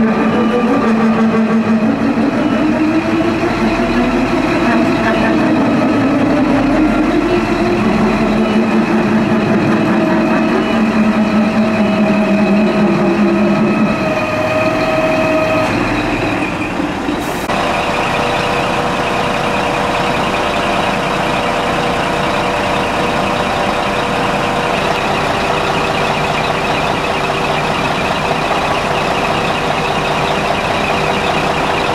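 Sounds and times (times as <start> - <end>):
diesel engine idling: 0.0 - 31.9.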